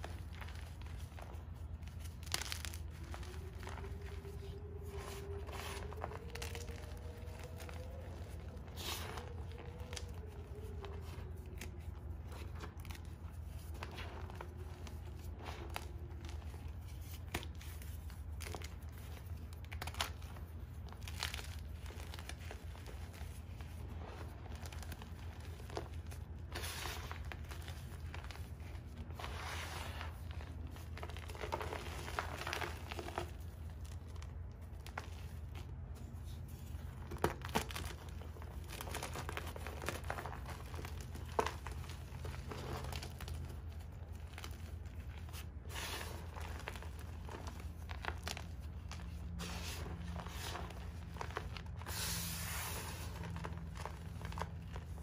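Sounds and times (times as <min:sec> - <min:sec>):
gritty rustling of chalk powder: 0:00.0 - 0:55.0
hands crushing chalk blocks: 0:00.0 - 0:55.0.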